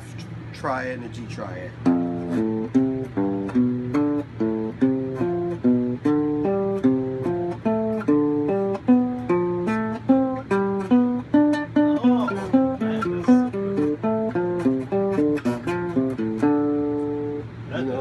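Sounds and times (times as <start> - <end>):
instrument playing chords: 1.8 - 17.6.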